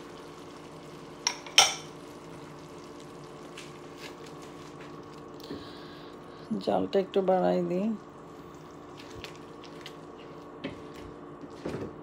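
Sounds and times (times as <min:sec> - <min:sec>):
faint frying sizzle: 0:00.0 - 0:12.0
steady low hum: 0:00.0 - 0:12.0.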